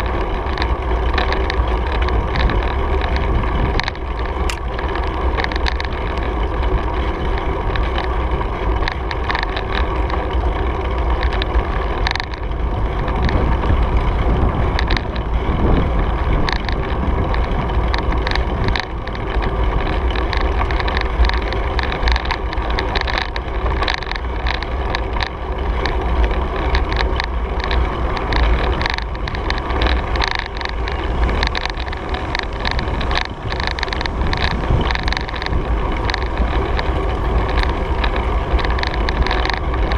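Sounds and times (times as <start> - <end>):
bicycle clicks and rattles: 0.0 - 39.9
tyres on pavement: 0.0 - 39.9
wind buffeting microphone: 0.0 - 39.9.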